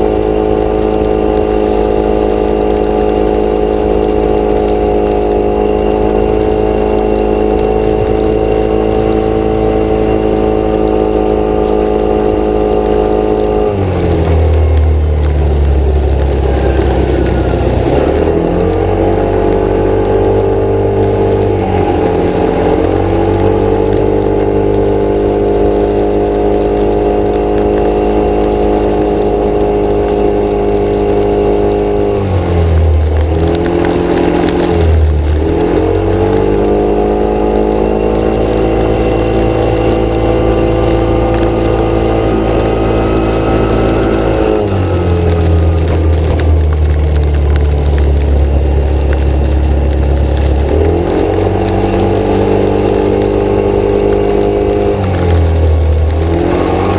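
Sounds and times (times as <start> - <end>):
engine running loudly: 0.0 - 56.9.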